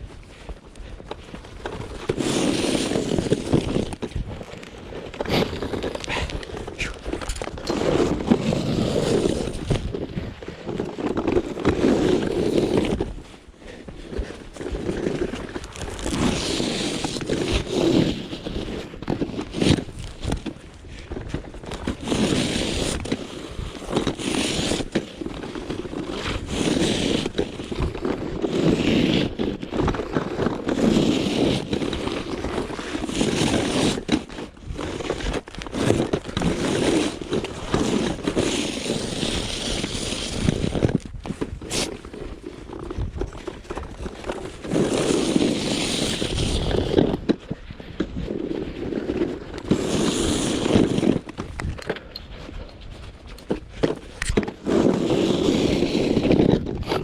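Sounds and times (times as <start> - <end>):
snow shovel scraping pavement: 0.2 - 57.0.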